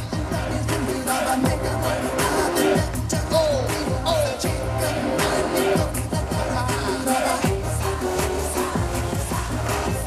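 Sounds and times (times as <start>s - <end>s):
man singing into microphone: 0.0s - 8.1s
dance track over loudspeakers: 0.0s - 10.0s.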